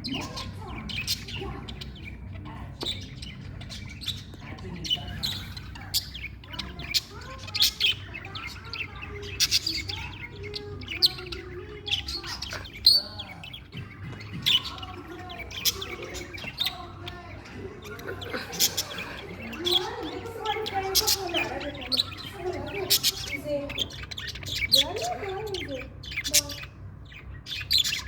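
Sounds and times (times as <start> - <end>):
budgerigars chirping and warbling: 0.0 - 28.0.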